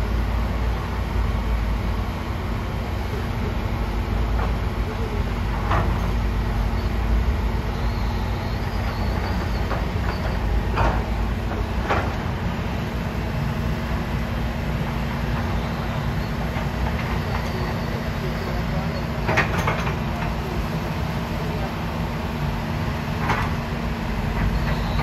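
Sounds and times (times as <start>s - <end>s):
excavator diesel engines running: 0.0s - 25.0s.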